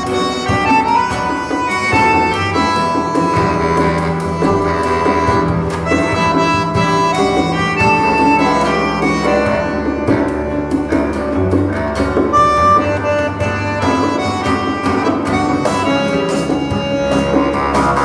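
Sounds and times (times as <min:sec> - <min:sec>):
held melodic tones: 0:00.0 - 0:18.0
percussion strikes: 0:00.0 - 0:18.0.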